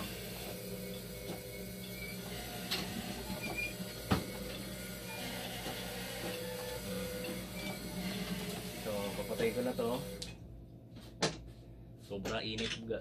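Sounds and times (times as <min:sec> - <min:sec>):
machine pumps humming: 0:00.0 - 0:10.5.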